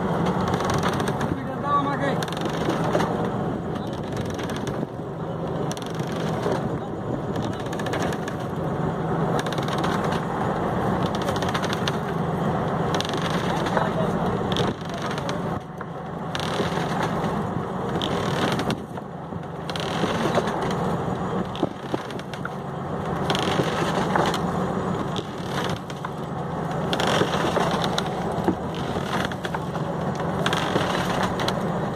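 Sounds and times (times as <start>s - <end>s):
boat engine humming: 0.0s - 31.9s
dense crackling noise: 0.0s - 31.9s.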